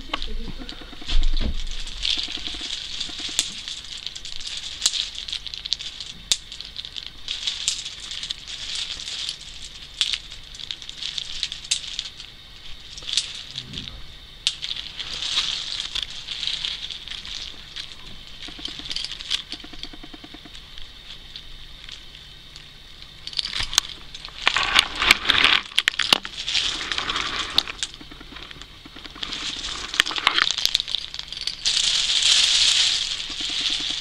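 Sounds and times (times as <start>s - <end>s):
hazelnuts clicking and rattling: 0.0s - 34.0s.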